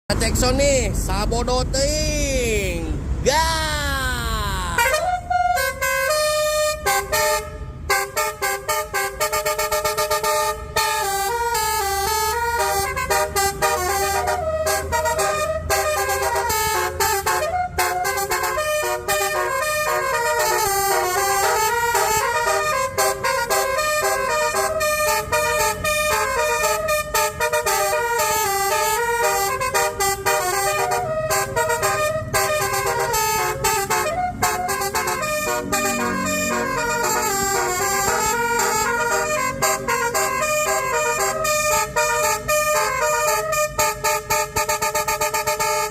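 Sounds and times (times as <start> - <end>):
multi-tone horn playing a melody: 4.8 - 45.9.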